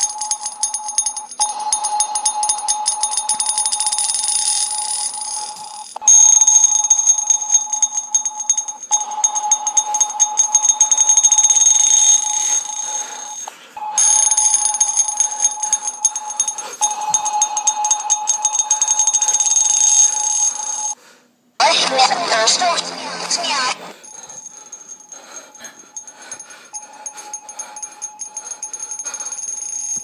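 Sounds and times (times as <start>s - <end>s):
alarm bell ringing: 0.0s - 21.0s, 24.0s - 30.0s.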